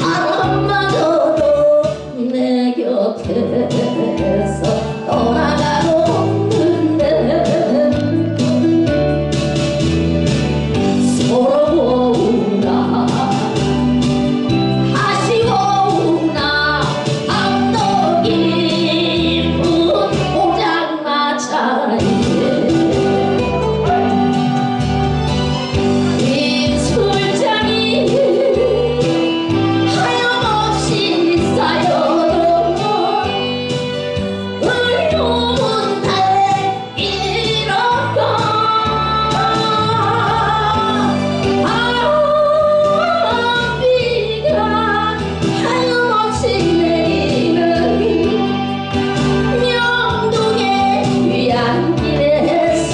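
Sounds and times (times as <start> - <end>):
instrumental accompaniment with bass beat: 0.0 - 2.4, 3.2 - 20.7, 21.9 - 52.9
woman singing into microphone: 0.0 - 8.9, 10.9 - 13.8, 14.6 - 24.0, 26.2 - 52.9.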